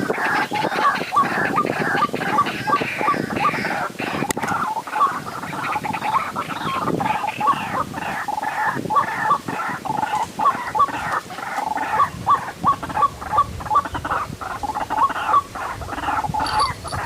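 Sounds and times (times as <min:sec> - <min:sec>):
harsh bird chatter: 0:00.0 - 0:17.0
waterhen sharp calls: 0:00.0 - 0:17.0.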